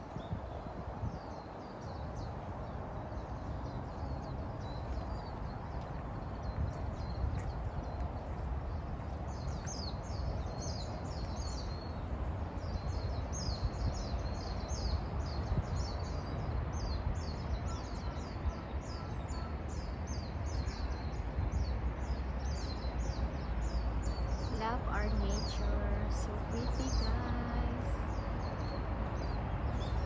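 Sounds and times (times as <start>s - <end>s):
small songbirds chirping: 0.0s - 30.0s
steady low rumble: 0.0s - 30.0s.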